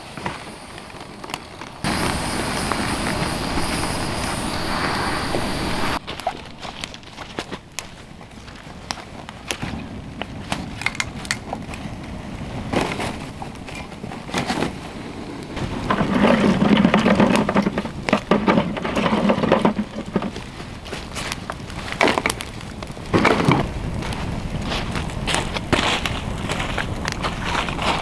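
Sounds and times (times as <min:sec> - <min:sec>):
feet shifting in dry leaves: 0:00.0 - 0:15.9, 0:20.3 - 0:28.0
campfire crackling and popping: 0:00.0 - 0:28.0
sticks rustling and crunching: 0:00.0 - 0:28.0.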